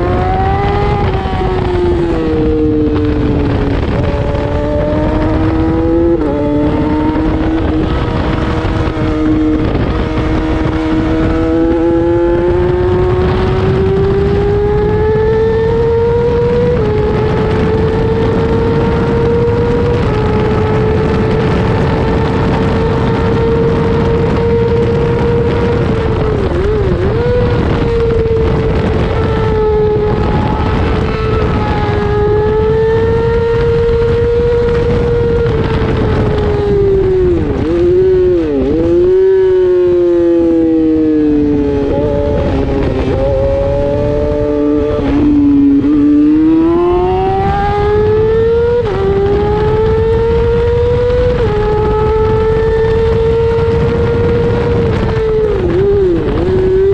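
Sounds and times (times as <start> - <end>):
heavy wind rush: 0.0 - 56.9
racing motorcycle engine: 0.0 - 56.9.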